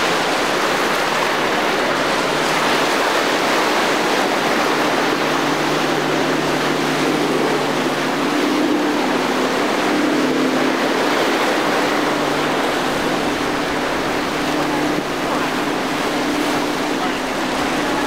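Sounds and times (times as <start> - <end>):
boat engines droning: 0.0 - 18.0
waves and rushing water: 0.0 - 18.0.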